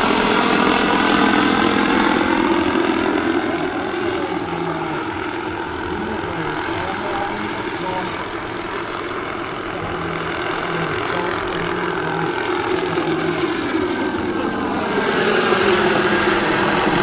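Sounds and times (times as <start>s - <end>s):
helicopter rotor noise: 0.0s - 17.0s
model gas turbine whine: 0.0s - 17.0s.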